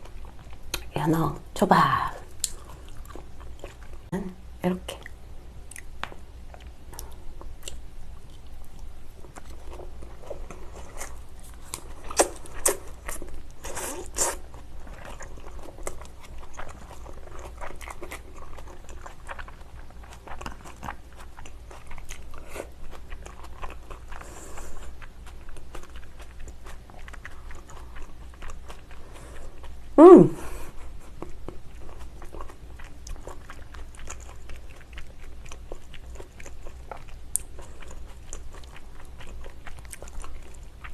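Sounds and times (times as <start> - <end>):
person chewing with wet smacking: 0.0 - 1.0, 2.2 - 4.1, 4.9 - 29.9, 30.5 - 40.9.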